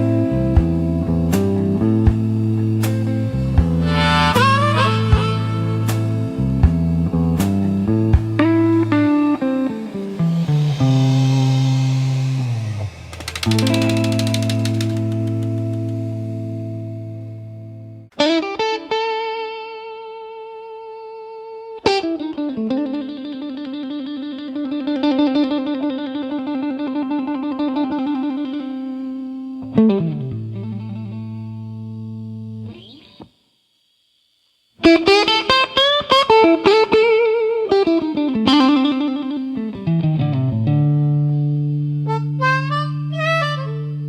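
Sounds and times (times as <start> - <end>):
slow blues guitar: 0.0 - 33.4, 34.8 - 44.0.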